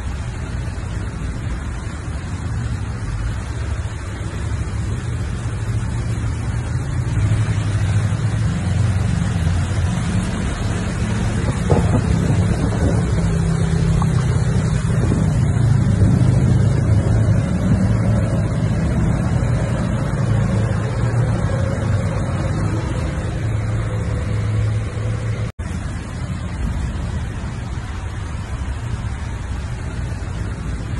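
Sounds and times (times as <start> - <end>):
constant hiss: 0.0 - 30.9
road noise: 0.0 - 30.9
vehicle engine rumble: 0.0 - 30.9.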